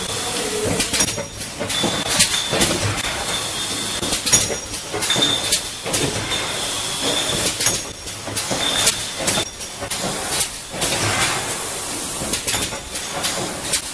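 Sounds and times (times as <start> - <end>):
machine clacking: 0.0 - 13.9.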